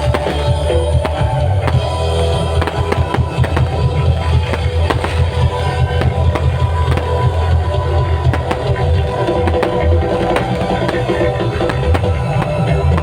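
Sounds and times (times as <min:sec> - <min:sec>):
fireworks bangs and crackles: 0:00.0 - 0:13.0
loud music with heavy bass: 0:00.0 - 0:13.0.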